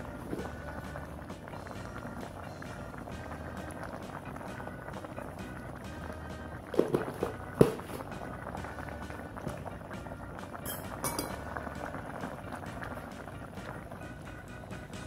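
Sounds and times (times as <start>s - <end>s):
soup bubbling: 0.0s - 15.0s.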